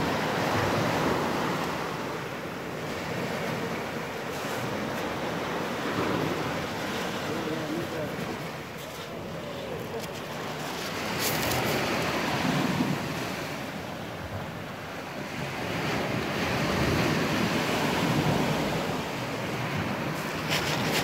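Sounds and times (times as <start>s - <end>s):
waves washing on pebble shore: 0.0s - 21.0s
wind on microphone: 2.9s - 21.0s.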